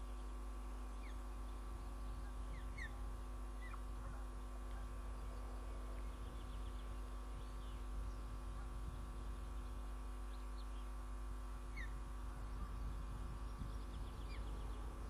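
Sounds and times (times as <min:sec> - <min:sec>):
faint high bird chirps: 0:00.0 - 0:11.0, 0:11.6 - 0:15.0
steady electrical hum: 0:00.0 - 0:15.0.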